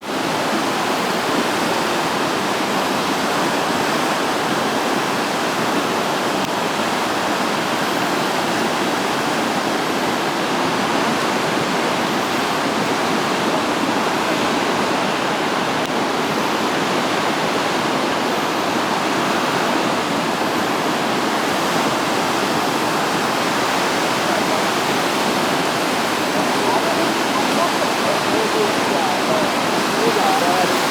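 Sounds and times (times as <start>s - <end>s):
water rushing through dam gates: 0.0s - 30.9s.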